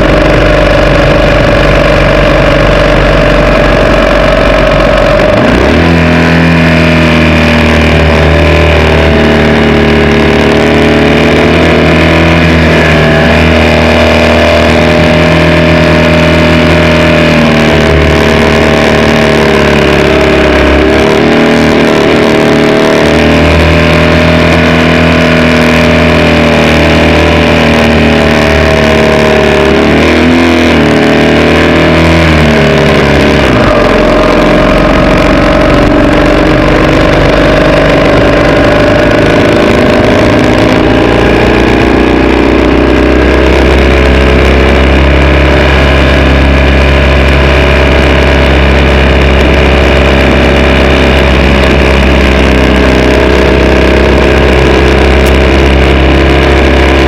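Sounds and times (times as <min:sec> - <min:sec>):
racing engine running hard: 0:00.0 - 0:57.0.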